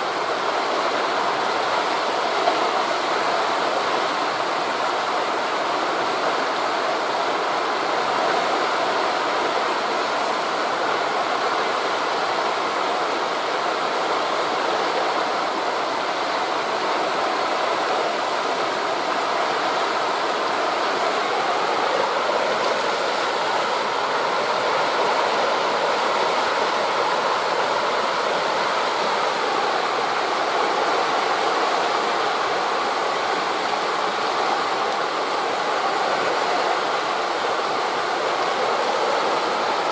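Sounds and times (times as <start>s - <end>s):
waves on a beach: 0.0s - 39.9s
wind through forest leaves: 0.0s - 39.9s.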